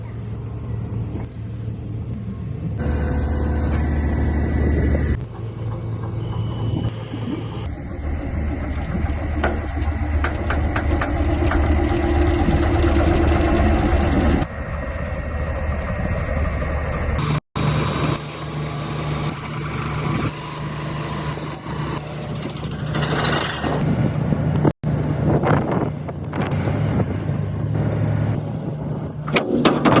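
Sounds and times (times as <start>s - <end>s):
hydraulic pile machine humming: 0.0s - 30.0s.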